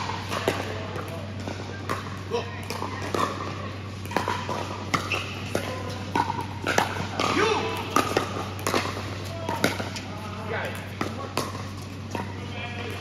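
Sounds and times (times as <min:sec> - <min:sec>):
paddles hitting plastic ball: 0:00.0 - 0:13.0.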